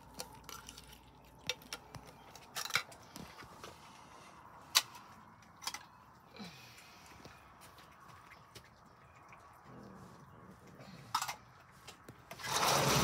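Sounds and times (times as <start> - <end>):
cats chewing food: 0.0 - 12.3.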